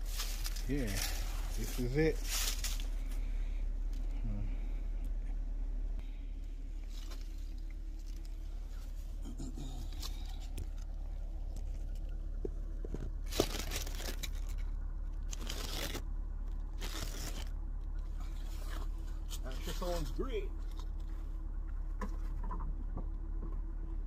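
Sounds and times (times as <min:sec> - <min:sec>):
rustling and crinkling: 0:00.0 - 0:04.2, 0:06.6 - 0:23.7
car engine idling: 0:00.0 - 0:24.0.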